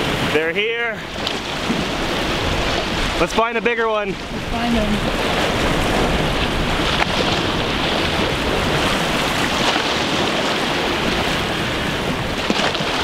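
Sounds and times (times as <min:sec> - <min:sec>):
waves washing against rocks: 0:00.0 - 0:13.0
wind buffeting microphone: 0:00.0 - 0:13.0.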